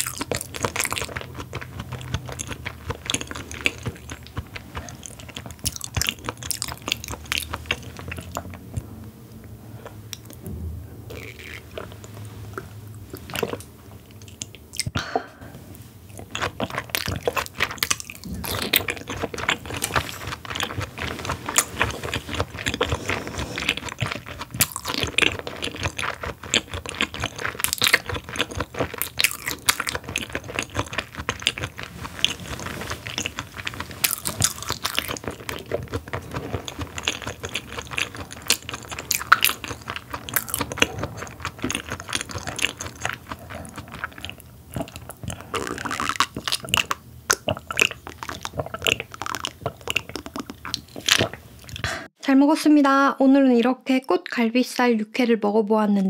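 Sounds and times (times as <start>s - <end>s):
wet chewing mouth clicks: 0.0s - 10.5s, 11.1s - 15.0s, 15.7s - 52.1s.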